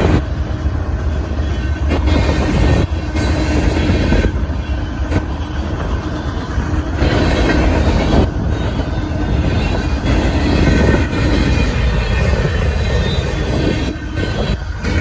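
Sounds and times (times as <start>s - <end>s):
train wheels rumbling on rail: 0.0s - 15.0s
wheels clacking over rail joints: 0.0s - 15.0s.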